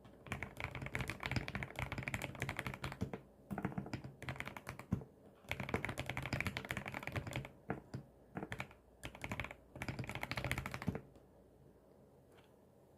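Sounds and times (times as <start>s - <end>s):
mechanical keyboard typing: 0.2s - 11.1s.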